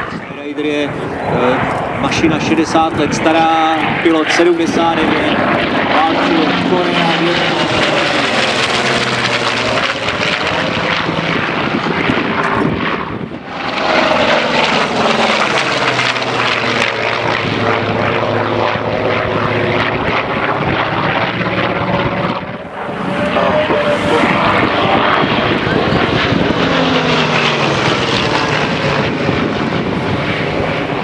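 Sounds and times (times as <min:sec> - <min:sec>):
propeller aircraft passing: 0:00.0 - 0:31.0.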